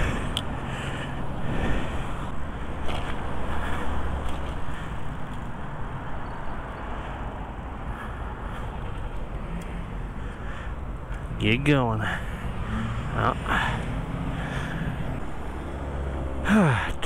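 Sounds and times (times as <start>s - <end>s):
bike tyre and road noise: 0.0s - 17.0s
car traffic passing: 0.0s - 17.0s.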